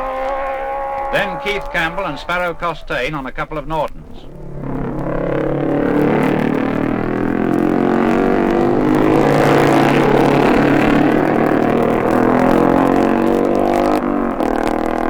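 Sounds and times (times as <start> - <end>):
racing motorcycles at full speed: 0.0 - 15.0.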